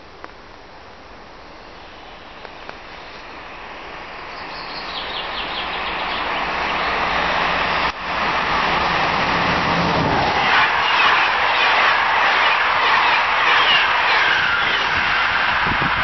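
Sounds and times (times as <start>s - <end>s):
train approaching rumbling rush: 1.4s - 16.0s.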